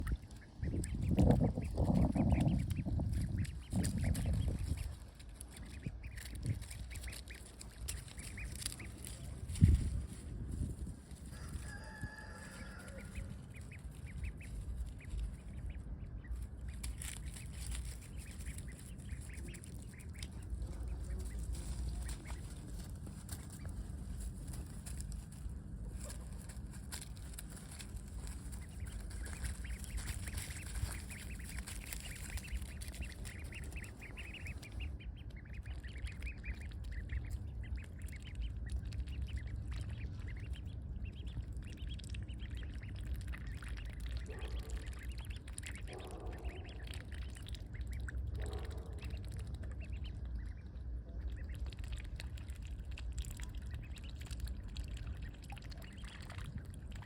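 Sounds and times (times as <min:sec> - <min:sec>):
ducklings peeping: 0:00.0 - 0:57.0
steady low rumble: 0:00.0 - 0:57.0.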